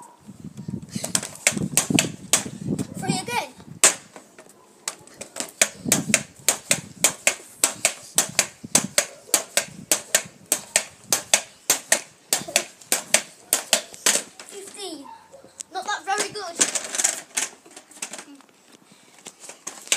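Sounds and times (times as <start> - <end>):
pogo stick bouncing on paving: 0.9 - 2.6, 3.2 - 15.0, 15.8 - 18.4, 19.3 - 19.9.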